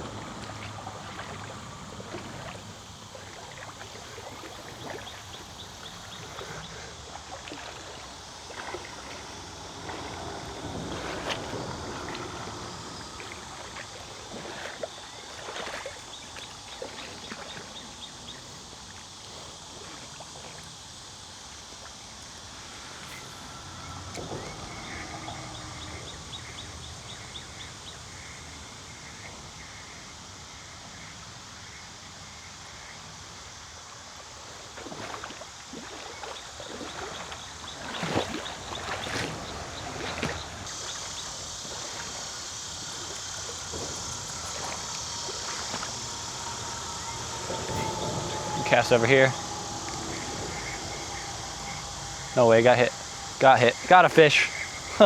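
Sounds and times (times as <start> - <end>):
water splashing from wading: 0.0 - 28.6, 33.6 - 55.0
steady outdoor hiss: 0.0 - 55.0.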